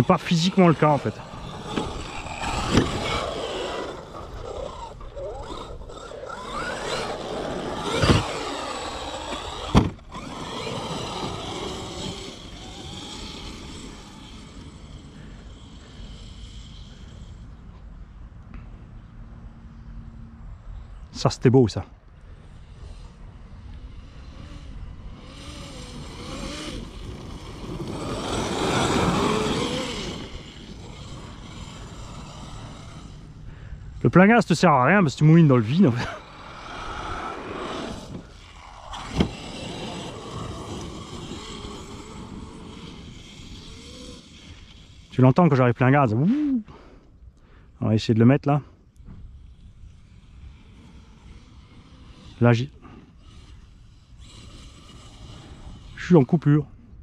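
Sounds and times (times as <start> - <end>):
toy truck motor whine: 0.0 - 17.9, 22.2 - 47.7, 48.7 - 56.5.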